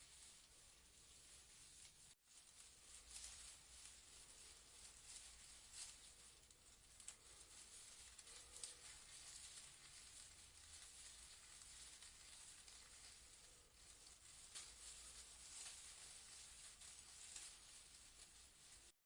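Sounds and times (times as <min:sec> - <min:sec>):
faint white noise hiss: 0:00.0 - 0:18.9.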